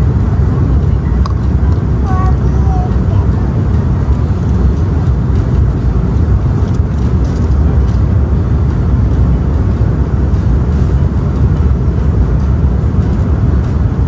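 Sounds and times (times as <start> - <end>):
airliner cabin roar: 0.0 - 14.0.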